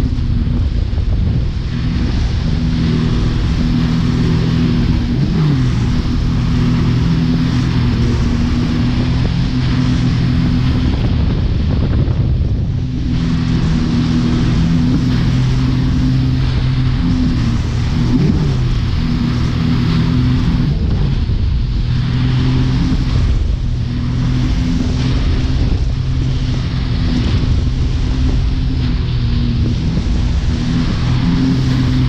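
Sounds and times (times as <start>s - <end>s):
speedboat engine running: 0.0s - 32.0s
wind: 0.0s - 32.0s
wake splashing: 1.0s - 11.6s, 12.6s - 32.0s.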